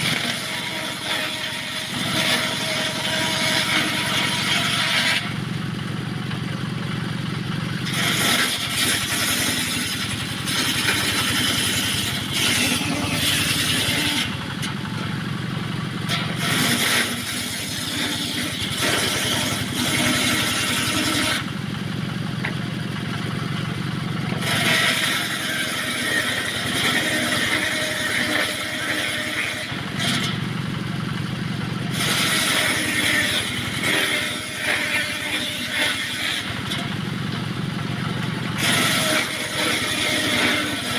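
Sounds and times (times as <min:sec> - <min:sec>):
saw blade cutting wood: 0:00.0 - 0:05.4, 0:07.8 - 0:15.2, 0:16.0 - 0:21.5, 0:24.3 - 0:30.5, 0:31.8 - 0:37.5, 0:38.1 - 0:40.9
circular saw running: 0:00.0 - 0:40.9.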